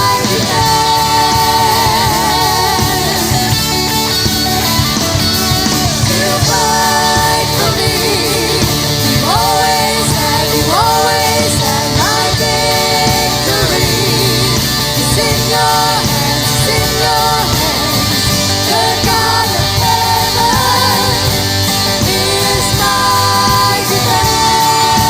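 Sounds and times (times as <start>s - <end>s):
rock band with guitar: 0.0s - 25.0s.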